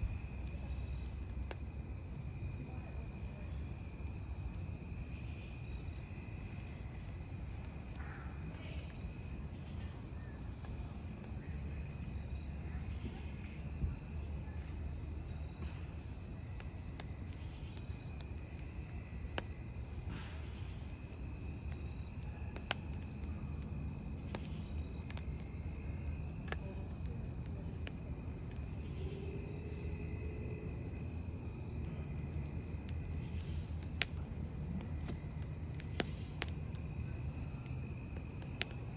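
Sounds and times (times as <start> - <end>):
crackling campfire: 0.0 - 38.9
crickets chirring: 0.0 - 38.9
sharp pops from burning wood: 0.1 - 2.4, 6.2 - 29.0, 31.7 - 38.9.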